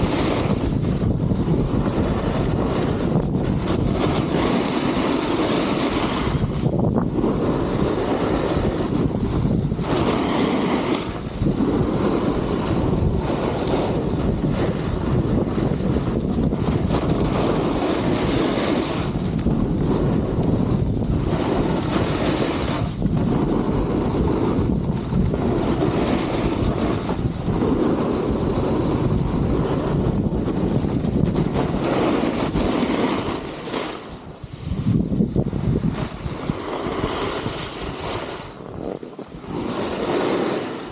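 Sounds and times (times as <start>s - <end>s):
snowboard scraping over snow: 0.0s - 40.9s
wind buffeting microphone: 0.0s - 40.9s.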